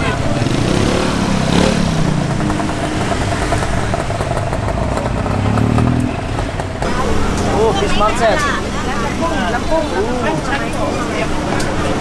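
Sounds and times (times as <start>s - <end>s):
engine revving: 0.0s - 12.0s
small engines in traffic: 0.0s - 12.0s.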